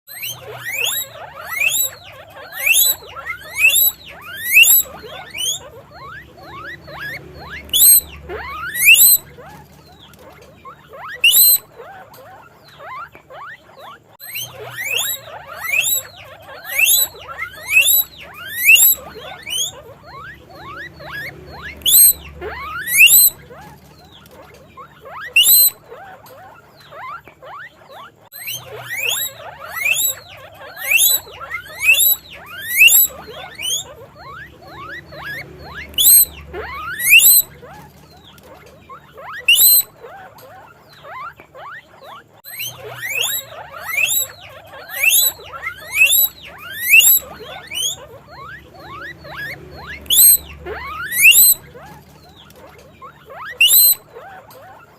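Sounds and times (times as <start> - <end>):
guinea pig wheeking: 0.1 - 54.9.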